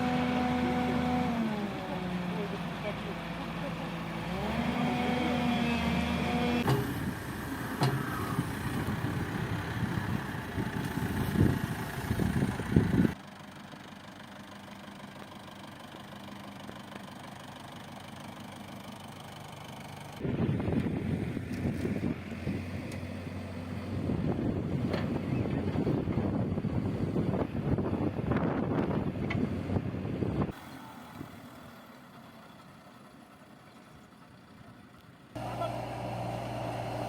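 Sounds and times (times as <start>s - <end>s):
heavy machinery engines running: 0.0s - 37.0s.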